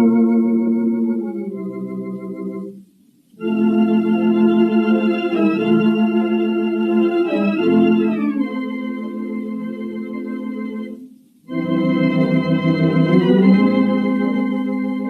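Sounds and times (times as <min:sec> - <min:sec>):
theatre organ chords: 0:00.0 - 0:02.8, 0:03.4 - 0:15.0.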